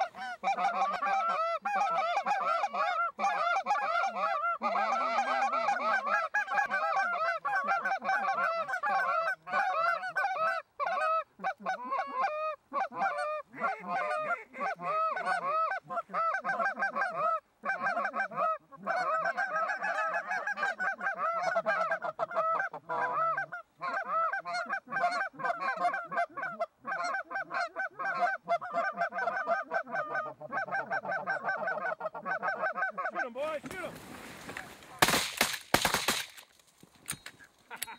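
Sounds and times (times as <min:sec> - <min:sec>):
geese honking: 0:00.0 - 0:35.1.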